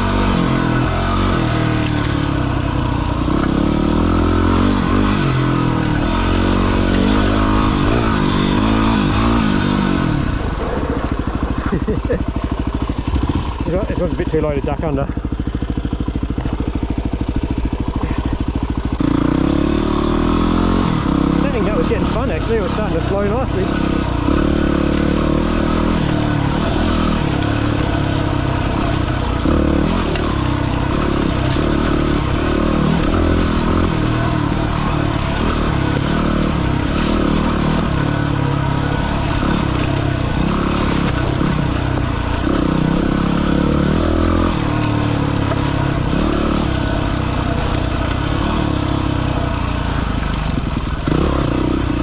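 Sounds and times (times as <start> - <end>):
motorbike engine running: 0.0 - 52.0.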